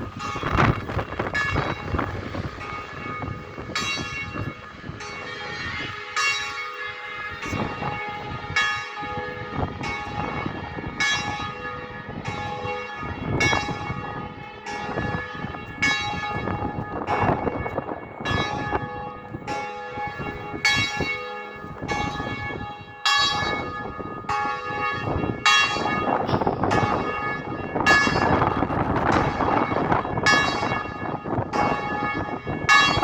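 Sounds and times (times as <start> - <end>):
bells ringing: 0.0 - 33.0
wind on microphone: 0.0 - 33.0.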